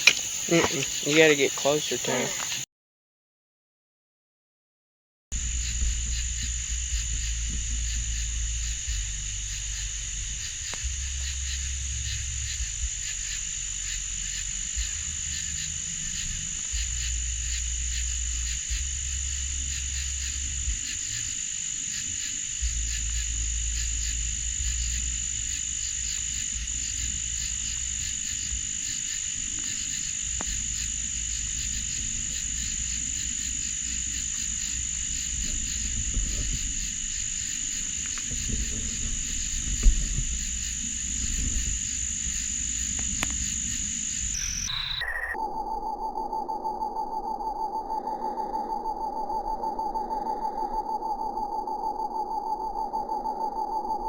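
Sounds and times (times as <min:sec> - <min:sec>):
frogs calling: 0:00.0 - 0:02.6, 0:05.4 - 0:54.0
high insect drone: 0:00.0 - 0:02.6, 0:05.4 - 0:54.0
low rumble: 0:05.3 - 0:50.0.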